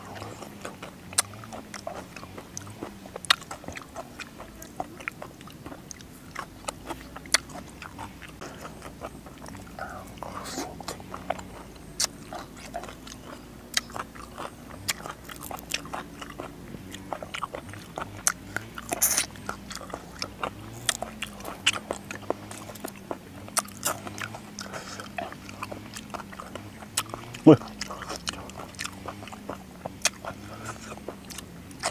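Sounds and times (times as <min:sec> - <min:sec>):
faint low hum: 0:00.0 - 0:31.9
man chewing crunchy vegetables: 0:00.0 - 0:31.9
mouth clicks: 0:00.1 - 0:31.9.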